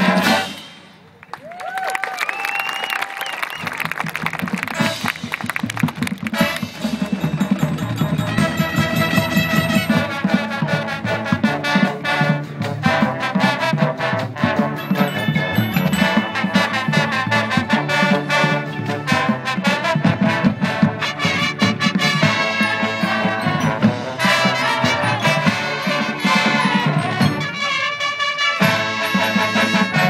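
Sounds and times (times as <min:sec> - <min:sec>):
brass playing chords and melody: 0:00.0 - 0:00.8, 0:06.3 - 0:30.0.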